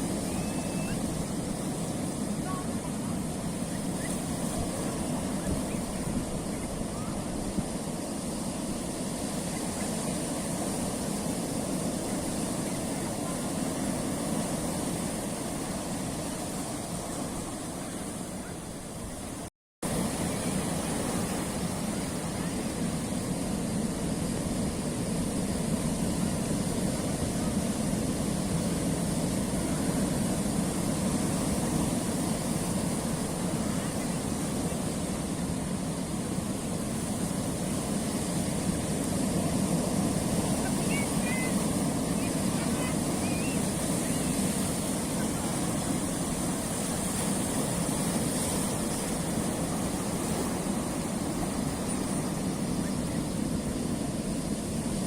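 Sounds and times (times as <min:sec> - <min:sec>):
surf washing on rocky shore: 0:00.0 - 0:55.0.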